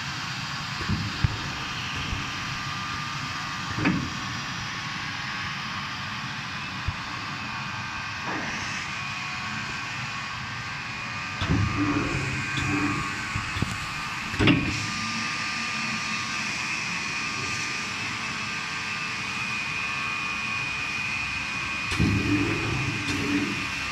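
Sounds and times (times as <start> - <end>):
welding machines humming and whining: 0.0 - 23.9.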